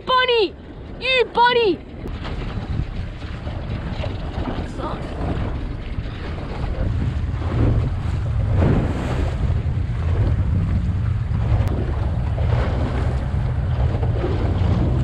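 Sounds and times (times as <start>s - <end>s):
boat engine rumble: 0.0s - 15.0s
water rushing along hull: 0.0s - 15.0s
wind buffeting microphone: 0.0s - 15.0s.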